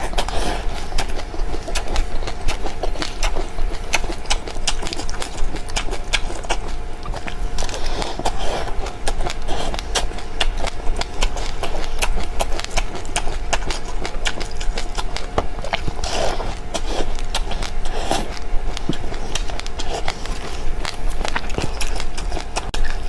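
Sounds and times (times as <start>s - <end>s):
seeds crunching as chewed: 0.0s - 23.0s
steady low hum: 0.0s - 23.0s.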